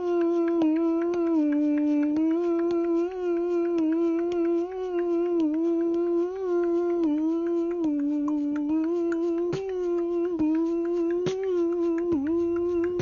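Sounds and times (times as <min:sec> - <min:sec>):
person humming: 0:00.0 - 0:13.0.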